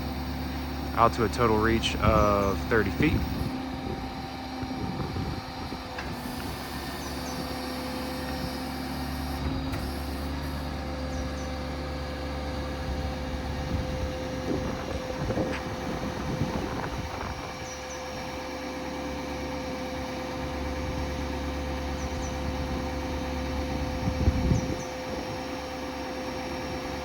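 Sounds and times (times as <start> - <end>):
diesel engine running: 0.0 - 27.0
hydraulic whine: 0.0 - 27.0.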